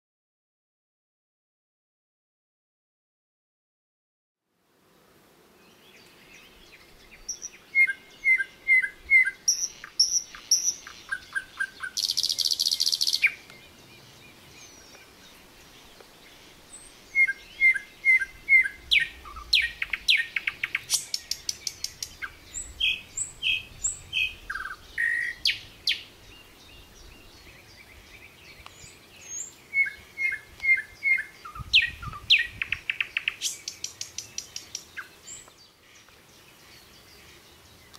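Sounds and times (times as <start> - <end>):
songbirds singing: 5.4 - 37.9.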